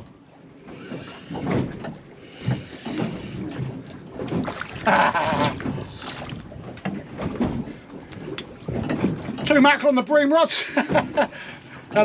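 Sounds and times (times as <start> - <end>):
water splashing against boat hull: 0.0 - 12.0.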